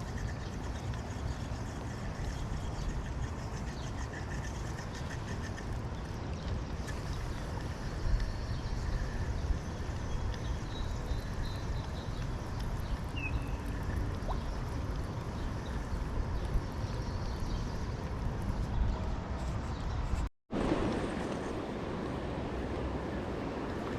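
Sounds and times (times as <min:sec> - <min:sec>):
wind on microphone: 0:00.0 - 0:23.9.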